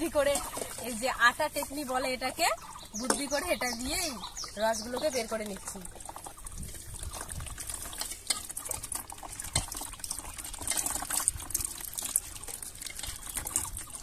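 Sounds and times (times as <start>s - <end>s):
juice trickling into plastic tub: 0.0s - 14.0s.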